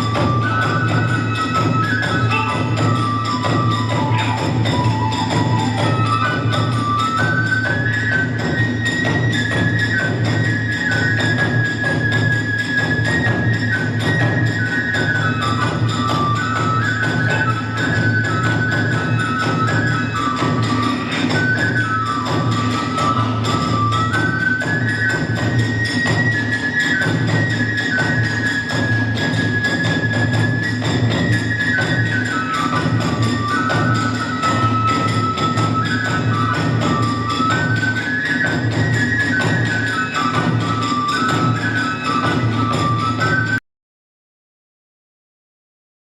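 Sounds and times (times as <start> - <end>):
bamboo flute melody: 0.0 - 43.6
steady drumming: 0.0 - 43.6.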